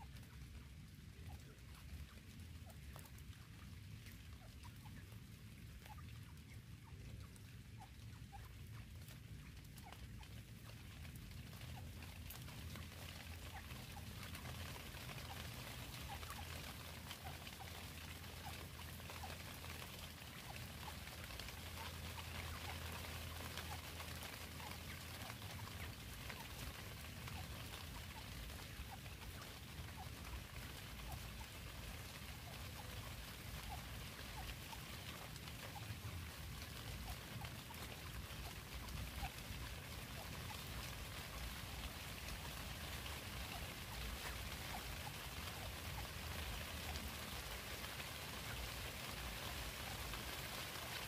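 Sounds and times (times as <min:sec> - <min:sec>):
light rain dripping on leaves: 0:00.0 - 0:51.0
low steady rumble: 0:00.0 - 0:51.0.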